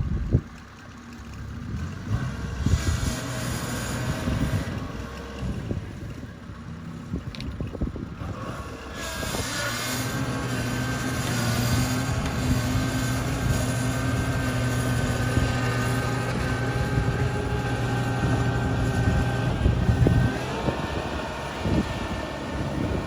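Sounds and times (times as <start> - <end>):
combine harvester engine droning: 0.0 - 23.0.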